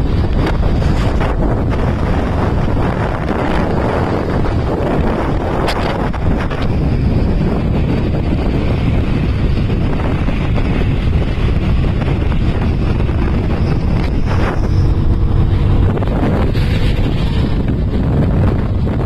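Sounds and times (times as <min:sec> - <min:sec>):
motorcycle and scooter engines: 0:00.0 - 0:19.0
wind rumble on microphone: 0:00.0 - 0:19.0.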